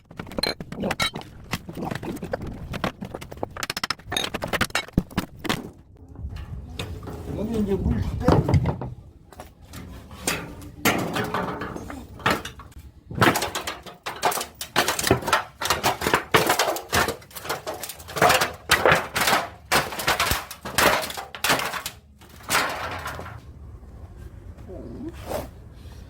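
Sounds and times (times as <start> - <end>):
plastic and metal parts clattering: 0.0 - 23.4.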